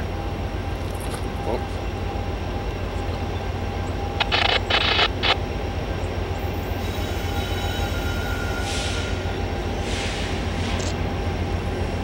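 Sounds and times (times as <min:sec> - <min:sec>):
distant diesel train rumble: 0:00.0 - 0:12.0.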